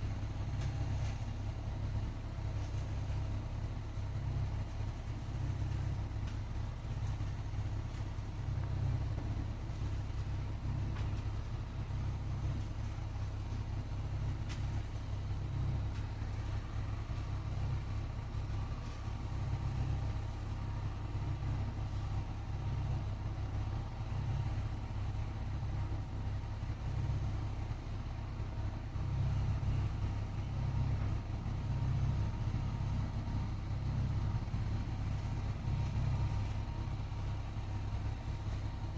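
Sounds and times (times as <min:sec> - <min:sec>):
steady low rumble: 0:00.0 - 0:38.9.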